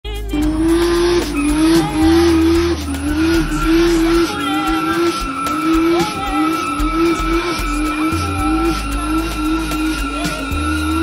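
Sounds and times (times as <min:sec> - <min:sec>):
engine revving high: 0:00.1 - 0:11.0.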